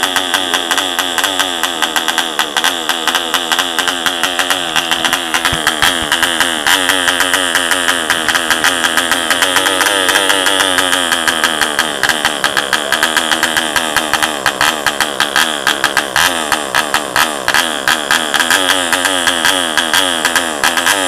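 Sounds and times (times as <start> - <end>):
model diesel engine crackling: 0.0 - 21.0.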